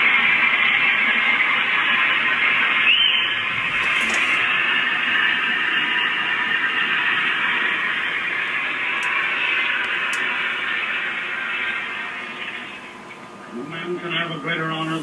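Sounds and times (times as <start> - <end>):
steady recording noise rush: 0.0 - 15.0.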